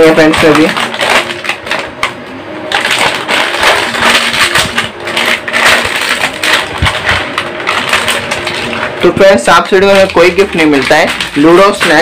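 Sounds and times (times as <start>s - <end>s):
plastic packet crackling: 0.0s - 12.0s.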